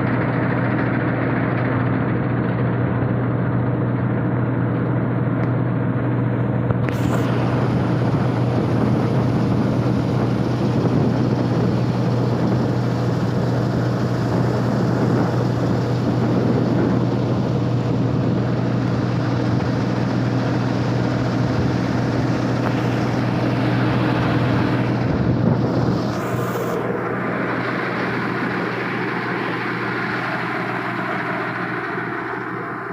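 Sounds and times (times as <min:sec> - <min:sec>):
combine harvester engine running: 0:00.0 - 0:32.9.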